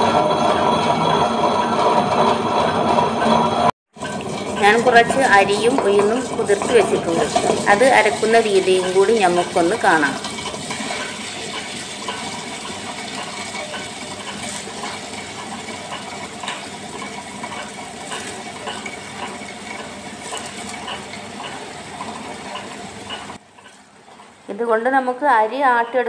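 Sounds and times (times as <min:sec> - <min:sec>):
wet grinder churning: 0:00.0 - 0:24.6.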